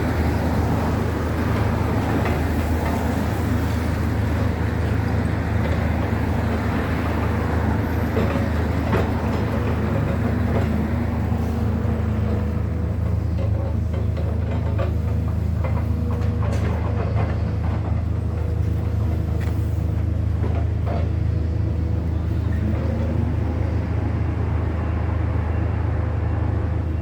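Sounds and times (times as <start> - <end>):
large engine droning: 0.0 - 27.0.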